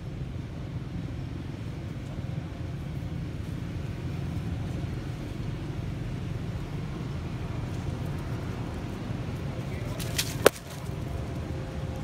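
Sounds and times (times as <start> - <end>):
low rumble of outdoor background noise: 0.0 - 12.0.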